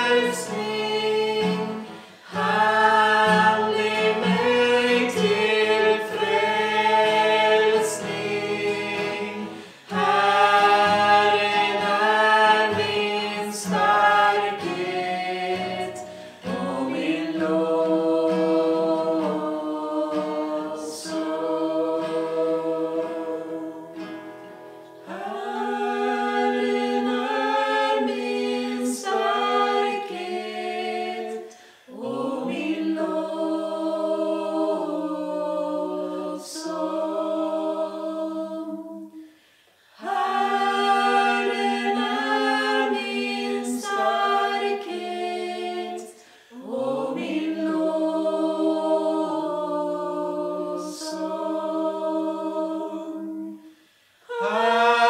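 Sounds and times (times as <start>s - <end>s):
acoustic guitar: 0.0s - 49.8s, 50.5s - 55.0s
group singing: 0.0s - 55.0s.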